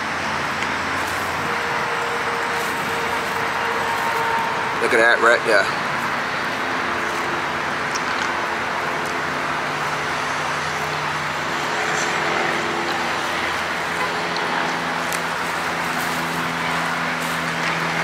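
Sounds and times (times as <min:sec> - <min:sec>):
low droning tones: 0:00.0 - 0:18.0
vehicle motor hum: 0:00.0 - 0:18.0.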